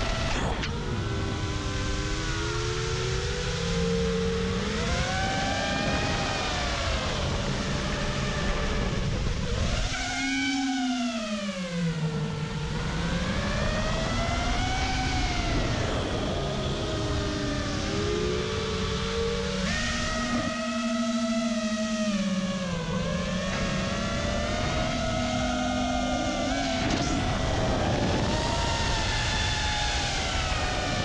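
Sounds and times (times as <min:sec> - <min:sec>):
drone motors whining: 0:00.0 - 0:31.0
steady rush of noise: 0:00.0 - 0:31.0.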